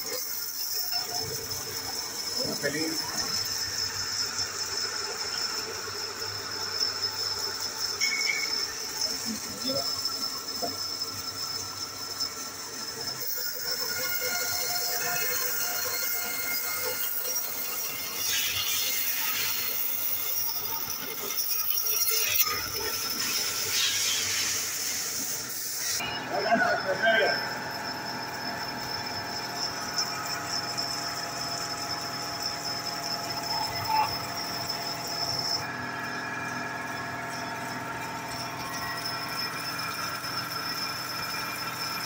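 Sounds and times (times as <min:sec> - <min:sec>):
saw motor running: 0:00.0 - 0:42.0
workshop machine humming and whining: 0:00.0 - 0:42.0.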